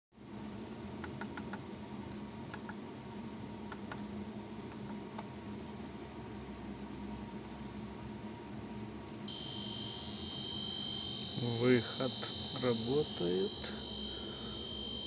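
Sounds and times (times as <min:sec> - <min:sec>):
low electrical hum: 0:00.2 - 0:15.0.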